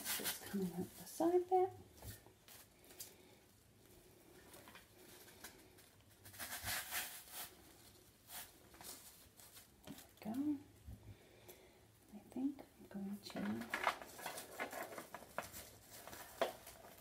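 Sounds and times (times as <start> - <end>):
artificial flowers rustling: 0.0 - 10.8, 13.1 - 17.0.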